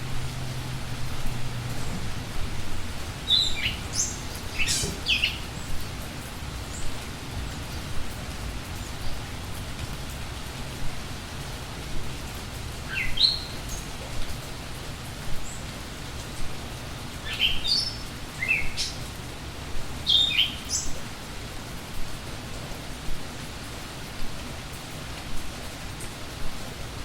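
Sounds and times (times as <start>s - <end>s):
songbirds chirping: 0.0s - 26.9s
steady rain: 0.0s - 27.0s.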